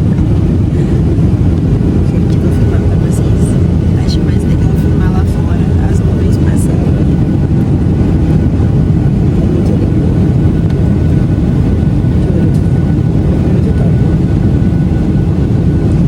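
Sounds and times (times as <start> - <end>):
airliner engine roar in cabin: 0.0 - 16.0.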